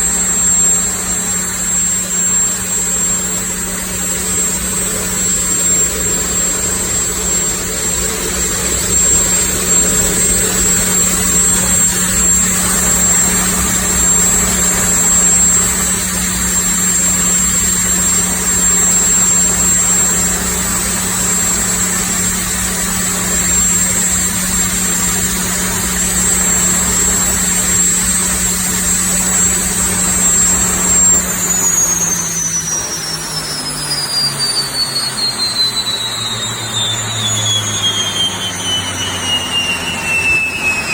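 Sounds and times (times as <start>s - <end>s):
gas turbine whine and hum: 0.0s - 40.9s.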